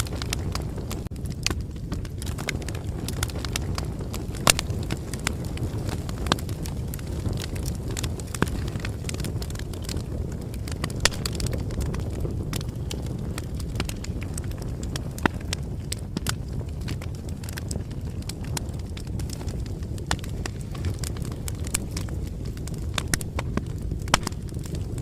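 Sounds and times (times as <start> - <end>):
bonfire pops and snaps: 0.0 - 25.0
low rumble of burning: 0.0 - 25.0.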